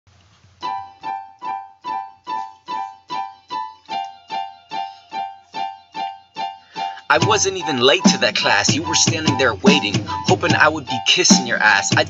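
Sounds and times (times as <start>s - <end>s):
piano-like keyboard chords: 0.6s - 12.0s.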